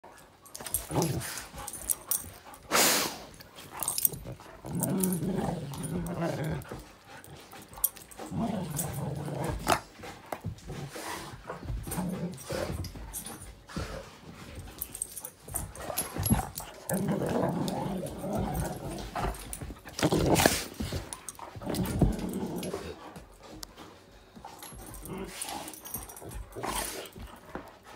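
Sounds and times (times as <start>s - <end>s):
dogs growling: 0.6s - 14.1s, 14.7s - 23.4s, 24.3s - 27.8s.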